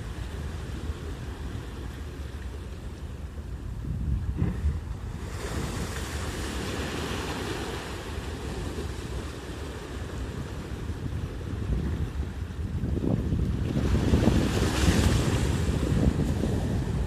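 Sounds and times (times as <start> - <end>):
sea waves washing ashore: 0.0 - 17.0
wind rumble on microphone: 0.0 - 17.0.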